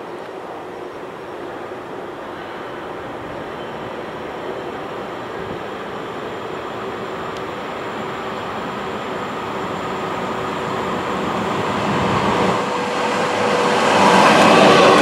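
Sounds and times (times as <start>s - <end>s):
train running on track: 0.0s - 15.0s.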